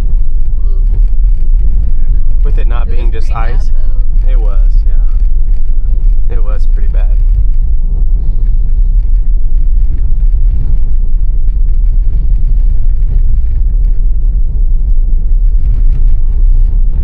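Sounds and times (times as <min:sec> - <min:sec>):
tyre and road noise: 0:00.0 - 0:17.0.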